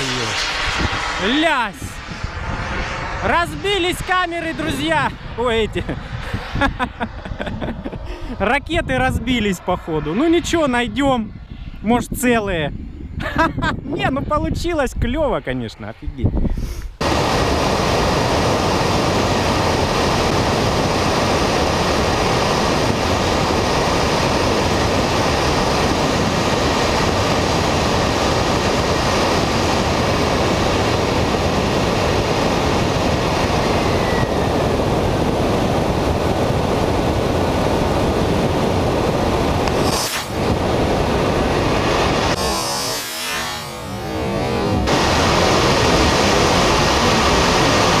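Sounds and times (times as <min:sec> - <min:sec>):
turbojet engine: 0:00.0 - 0:13.2, 0:16.8 - 0:48.0
rush of airflow: 0:00.0 - 0:13.3, 0:16.2 - 0:48.0.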